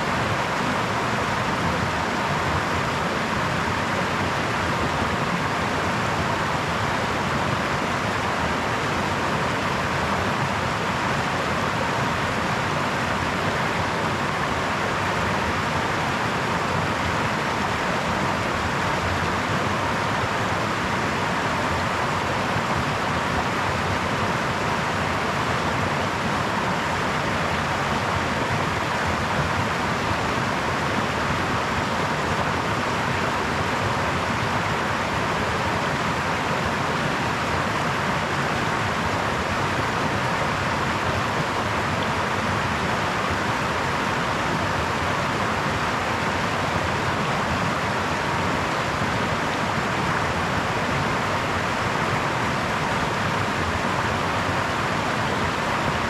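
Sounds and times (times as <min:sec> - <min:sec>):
brook water running: 0:00.0 - 0:56.0.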